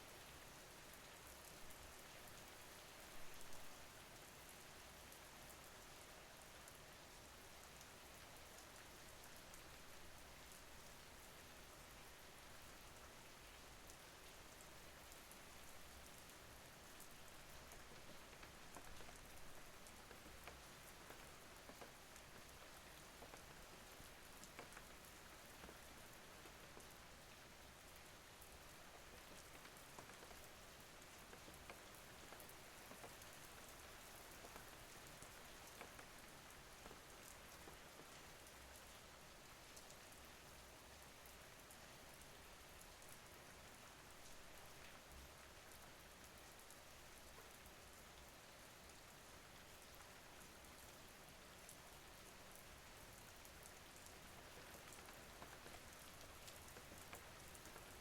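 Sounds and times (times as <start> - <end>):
soft rain pattering: 0.0 - 58.0.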